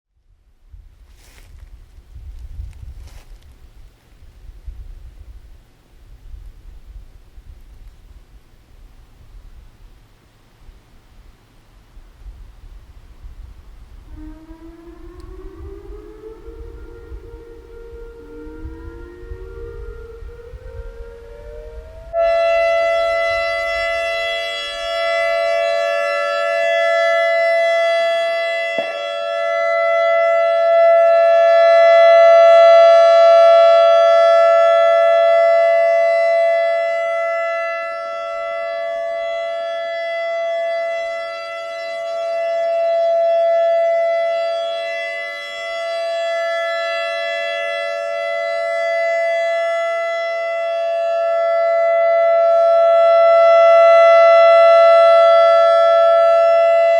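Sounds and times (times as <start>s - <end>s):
warning siren steady tone: 1.1s - 56.9s.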